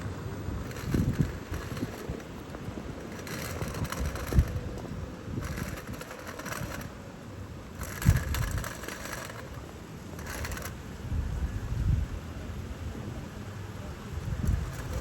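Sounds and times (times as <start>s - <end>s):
wind buffeting microphone: 0.0s - 7.0s, 7.7s - 9.6s, 10.2s - 13.2s, 14.1s - 15.0s.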